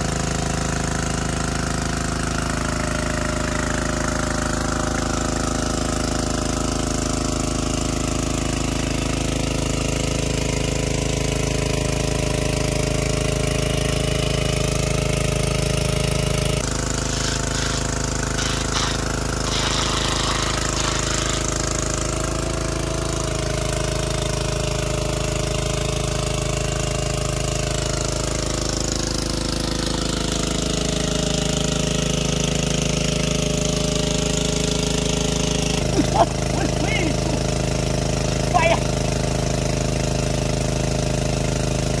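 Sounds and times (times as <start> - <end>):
engine-driven water pump running: 0.0 - 42.0.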